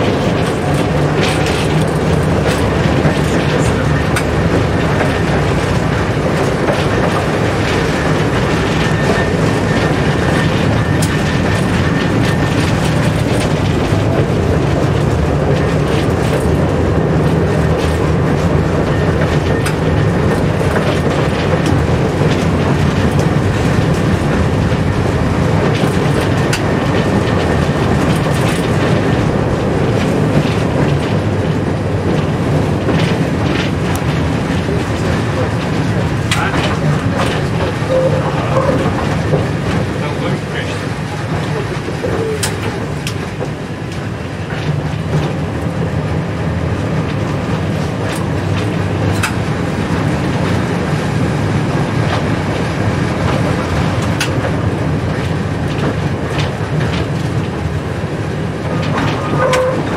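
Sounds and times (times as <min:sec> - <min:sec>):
tram wheels rumbling on rail: 0:00.0 - 0:59.9
wheels clicking over rail joints: 0:00.0 - 0:59.9.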